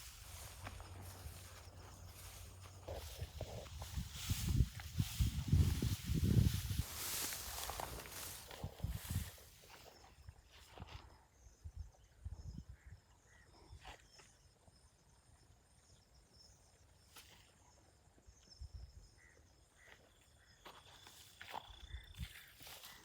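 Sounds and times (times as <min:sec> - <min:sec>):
faint high insect chirring: 0:00.0 - 0:23.0.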